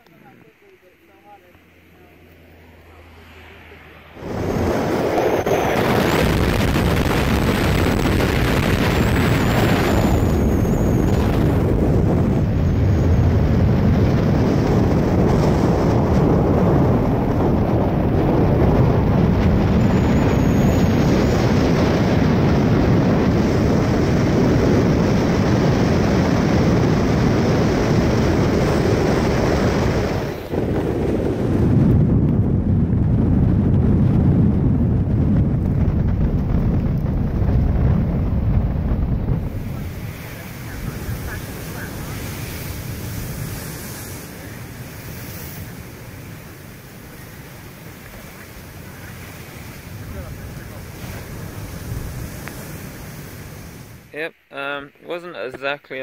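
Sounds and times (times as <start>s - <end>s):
road noise: 0.0s - 55.2s
wind buffeting microphone: 4.1s - 54.1s.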